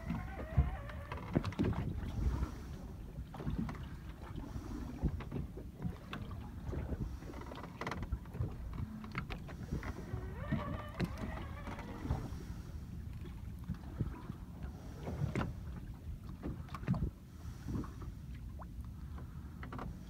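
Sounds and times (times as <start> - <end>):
water slapping boat hull: 0.0 - 20.0
wind rumble on microphone: 0.0 - 20.0.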